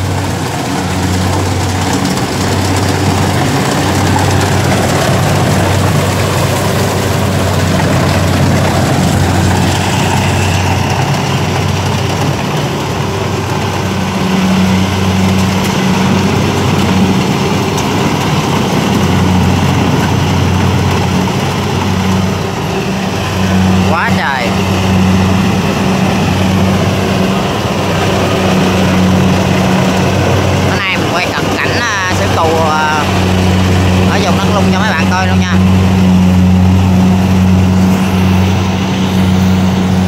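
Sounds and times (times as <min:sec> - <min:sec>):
combine harvester engine hum: 0:00.0 - 0:40.0
threshing machinery running: 0:00.0 - 0:40.0.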